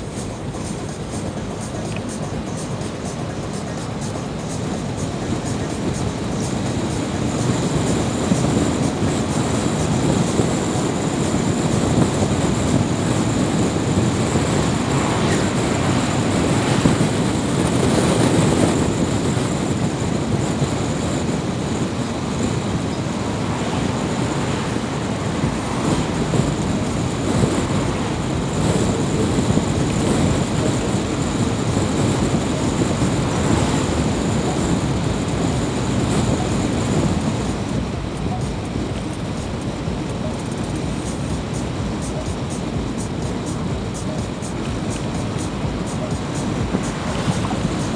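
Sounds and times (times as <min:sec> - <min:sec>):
car driving at road speed: 0:00.0 - 0:47.9.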